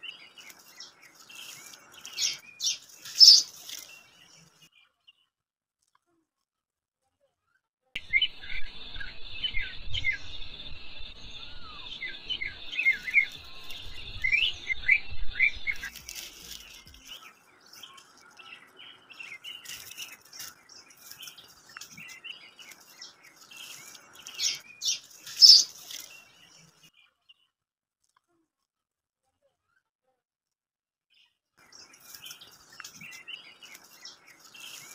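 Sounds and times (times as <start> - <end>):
small birds chirping: 0.0 - 5.3, 7.4 - 27.6, 31.1 - 34.9.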